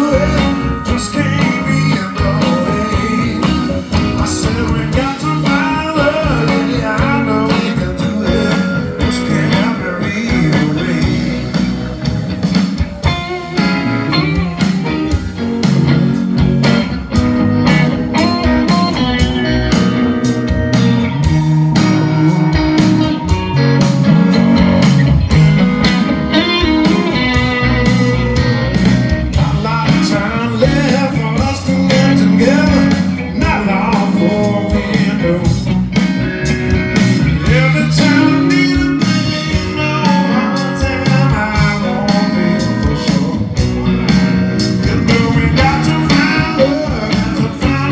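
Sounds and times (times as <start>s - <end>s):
blues rock band playing: 0.0s - 47.9s.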